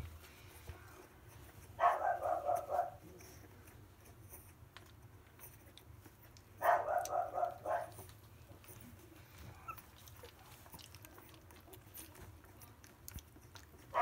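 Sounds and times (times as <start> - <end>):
puppy whimpering: 0.9 - 14.0.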